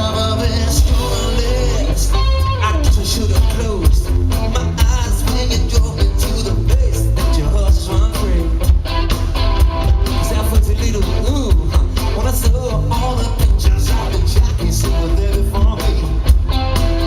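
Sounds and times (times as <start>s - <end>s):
live band playing rock music: 0.0s - 17.0s.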